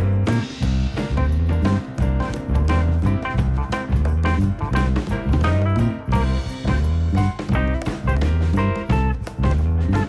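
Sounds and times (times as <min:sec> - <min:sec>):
swing jazz music with bass and guitar: 0:00.0 - 0:10.0.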